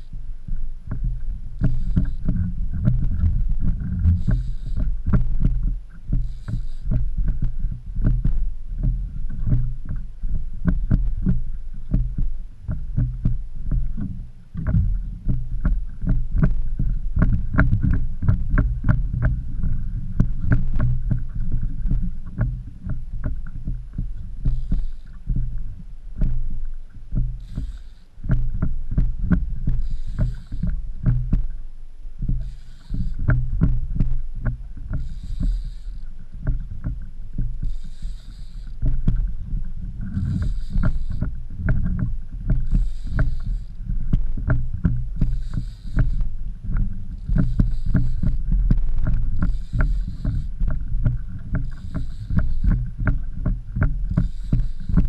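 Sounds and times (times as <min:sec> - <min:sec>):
constant low rumble: 0:00.0 - 0:55.0.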